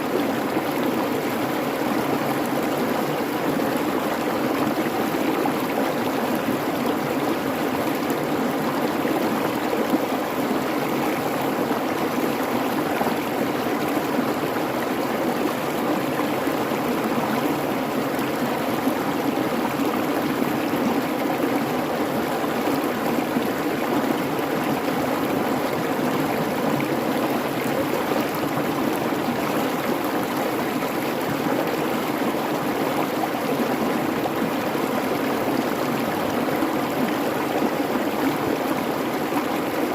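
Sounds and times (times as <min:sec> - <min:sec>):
creek water burbling over rocks: 0:00.0 - 0:39.9.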